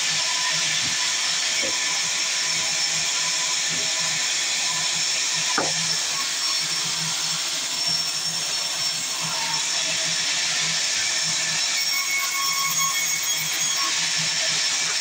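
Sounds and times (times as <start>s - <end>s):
sawmill saw cutting wood: 0.0s - 15.0s.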